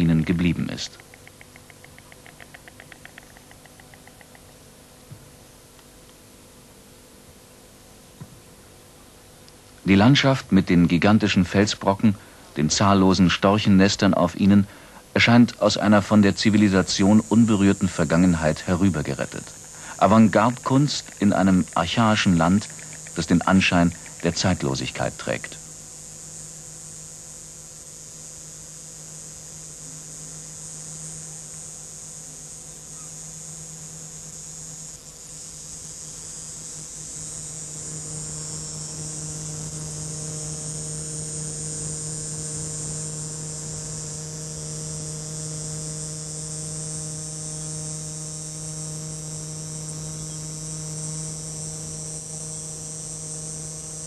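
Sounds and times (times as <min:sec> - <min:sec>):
insect chorus: 0:00.0 - 0:54.0
low steady hum: 0:00.0 - 0:54.0.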